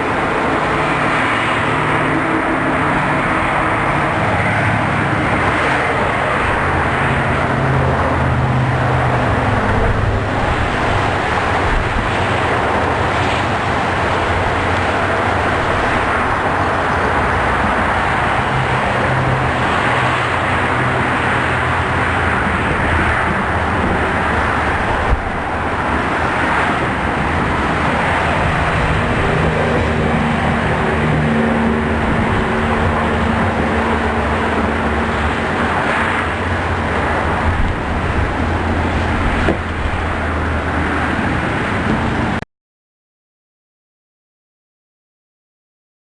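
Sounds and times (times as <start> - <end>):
highway traffic noise: 0.0 - 42.4.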